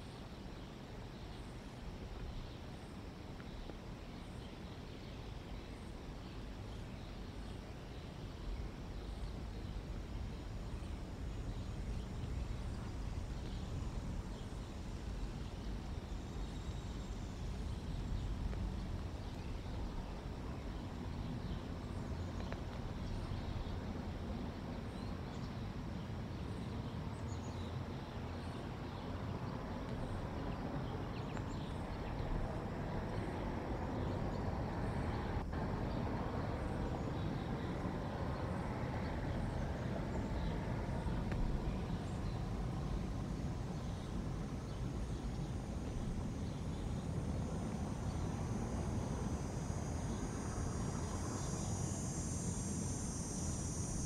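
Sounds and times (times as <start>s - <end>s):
insects trilling: 0.0s - 54.0s
low outdoor rumble: 0.1s - 54.0s.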